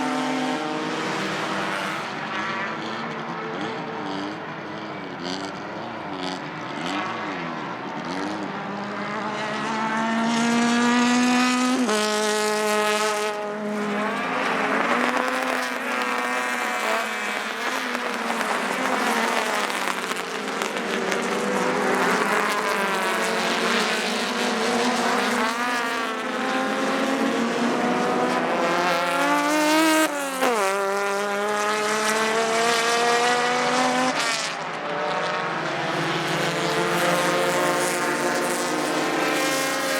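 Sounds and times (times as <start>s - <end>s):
race car engines at full throttle: 0.0s - 39.9s.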